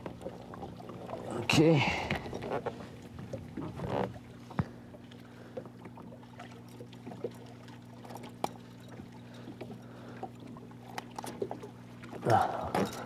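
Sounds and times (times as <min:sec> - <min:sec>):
water splashing against boat: 0:00.0 - 0:13.0.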